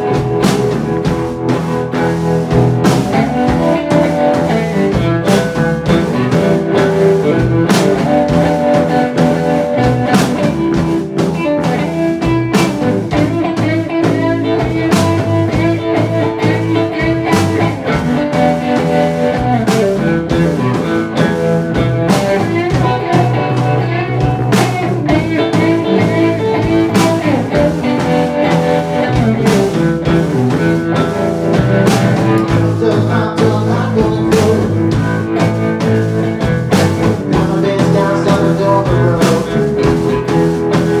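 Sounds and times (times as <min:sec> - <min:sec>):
drum kit beat: 0:00.0 - 0:41.0
electric bass guitar: 0:00.0 - 0:41.0
electric guitar: 0:00.0 - 0:41.0.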